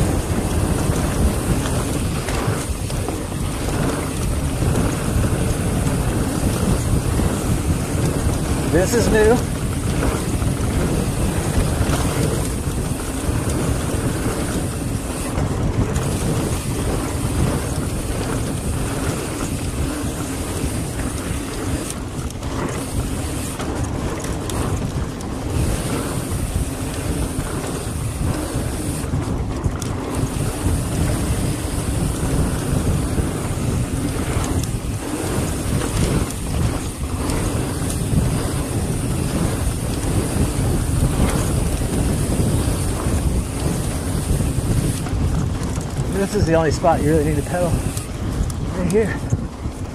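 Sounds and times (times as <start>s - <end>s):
bike tyres rolling on dirt: 0.0s - 49.9s
wind on microphone: 0.0s - 49.9s.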